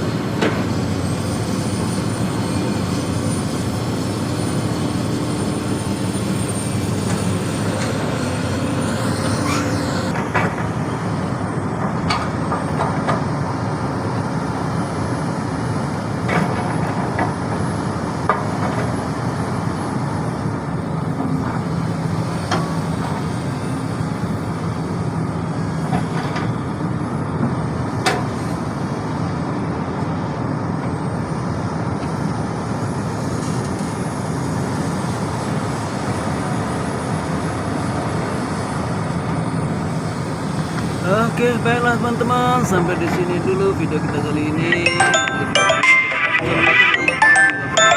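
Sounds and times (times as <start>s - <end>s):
excavator diesel engine running: 0.0s - 31.0s, 33.9s - 47.9s.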